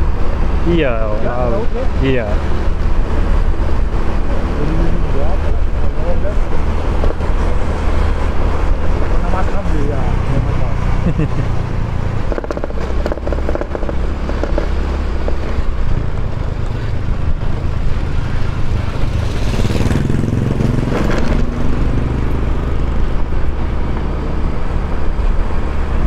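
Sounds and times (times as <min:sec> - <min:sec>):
motorcycle passing: 0:00.0 - 0:26.0
scooter engine and wind rumble: 0:00.0 - 0:26.0.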